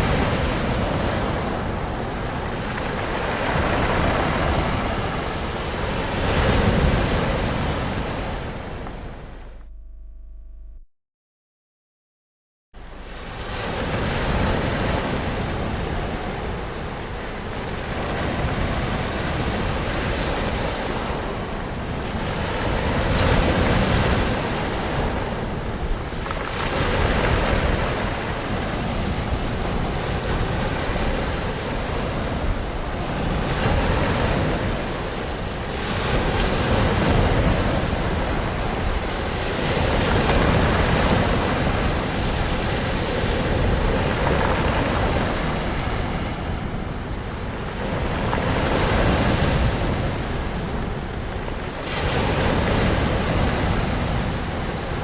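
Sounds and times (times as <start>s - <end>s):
ocean waves breaking: 0.0s - 9.6s, 12.8s - 55.0s.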